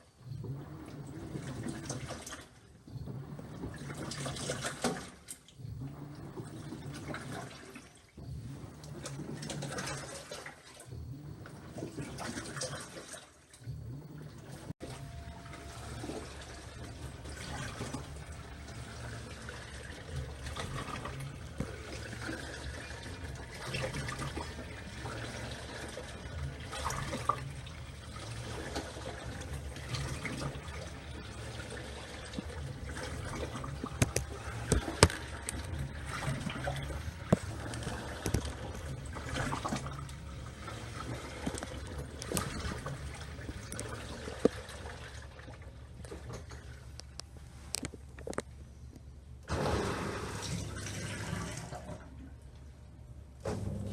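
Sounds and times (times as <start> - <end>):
motor hum: 0.0 - 48.4, 49.4 - 53.9
water sloshing in washing machine: 0.0 - 48.7, 49.5 - 53.9.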